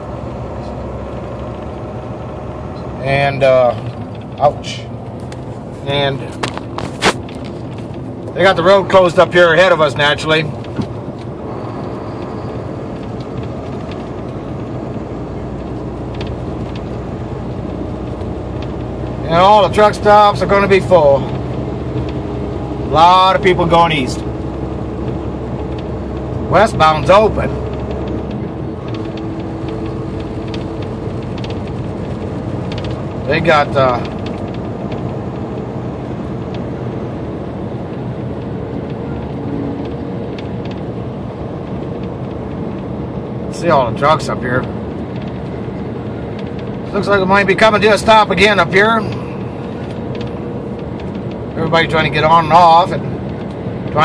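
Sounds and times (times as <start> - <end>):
road noise: 0.0 - 54.0
truck engine rumble: 0.0 - 54.0.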